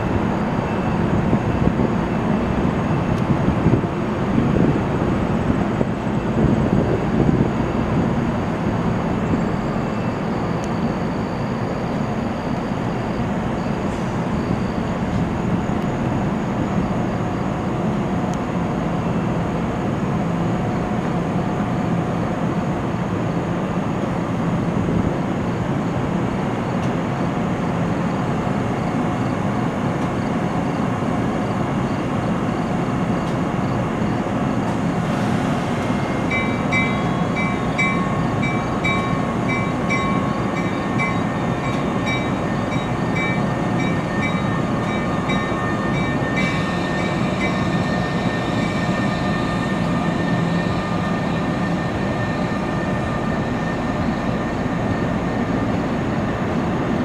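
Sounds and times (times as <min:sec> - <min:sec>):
electric train hum: 0:00.0 - 0:57.0.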